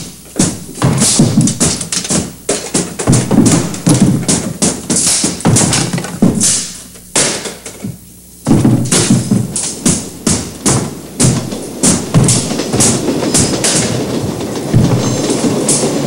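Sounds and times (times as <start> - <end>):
irregular knocks and thumps: 0.0 - 16.0.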